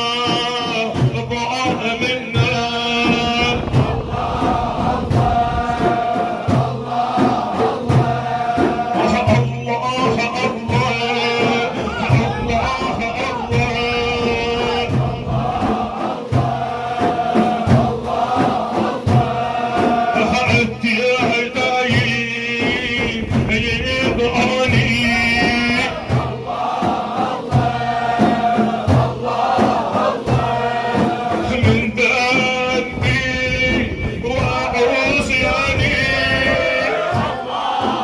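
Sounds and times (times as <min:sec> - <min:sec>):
men chanting: 0:00.0 - 0:38.0
steady low beat: 0:00.0 - 0:38.0.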